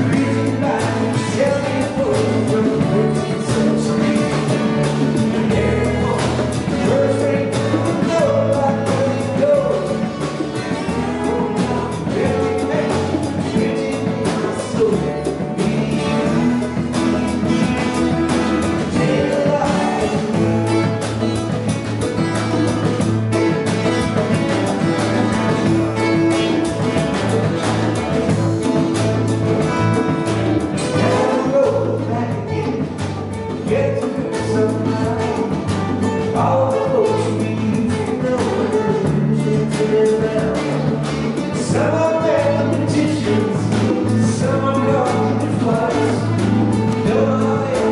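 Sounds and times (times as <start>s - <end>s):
acoustic guitars strumming: 0.0s - 47.9s
congas: 0.0s - 47.9s
drum kit: 0.0s - 47.9s
electric bass: 0.0s - 47.9s
live band playing: 0.0s - 47.9s.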